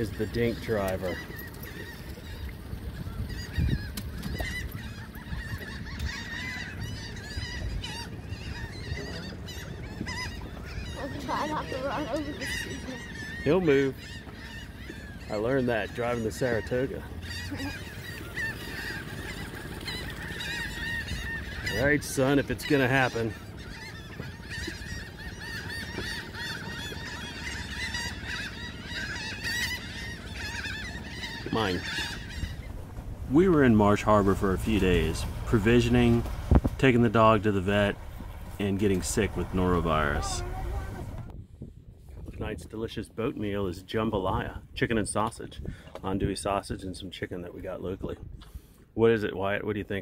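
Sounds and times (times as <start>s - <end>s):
seabirds squawking: 0.0s - 41.4s
outboard motor rumble: 0.0s - 42.3s.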